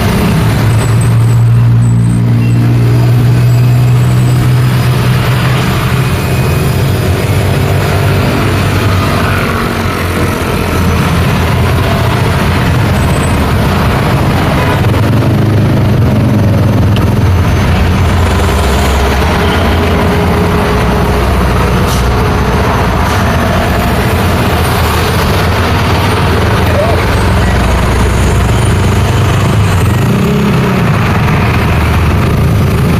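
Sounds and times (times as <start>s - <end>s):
heavy vehicles passing: 0.0s - 32.9s
truck and bus engines rumbling: 0.0s - 32.9s.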